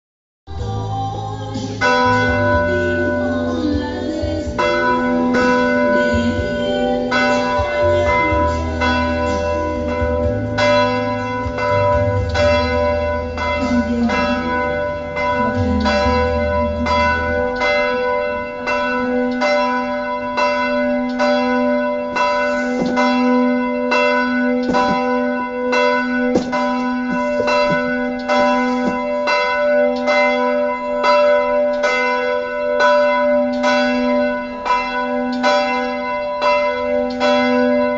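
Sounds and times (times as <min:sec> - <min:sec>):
church bells pealing: 0:00.6 - 0:37.9.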